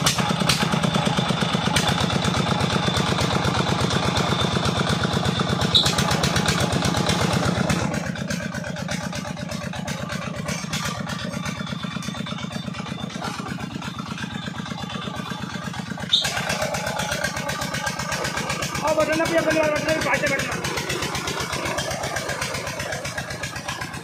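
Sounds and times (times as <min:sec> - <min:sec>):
stationary diesel engine running: 0:00.0 - 0:24.0.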